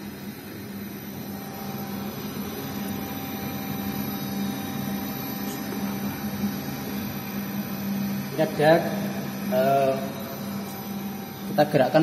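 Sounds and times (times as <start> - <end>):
milling machine spindle humming: 0.0 - 12.0.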